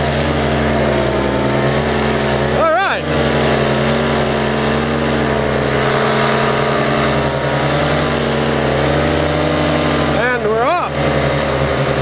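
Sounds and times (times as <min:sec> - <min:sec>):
paramotor engine running: 0:00.0 - 0:12.0.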